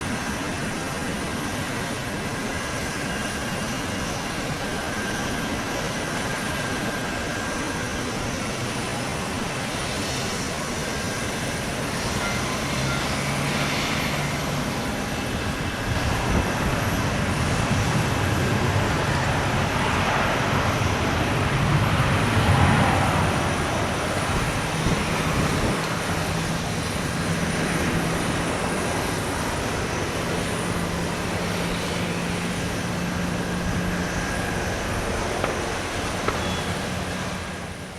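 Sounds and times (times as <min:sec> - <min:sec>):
airliner jet engines passing: 0:00.0 - 0:37.9.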